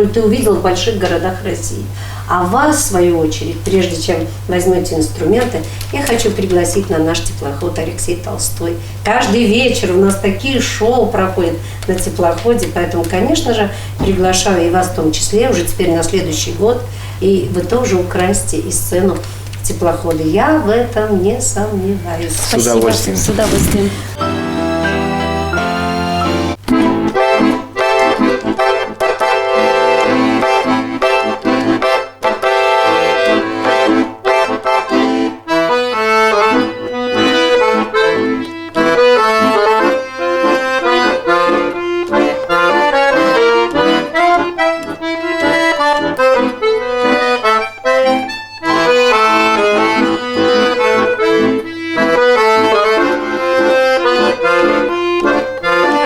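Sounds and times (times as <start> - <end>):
accordion duet playing: 5.9 - 56.0.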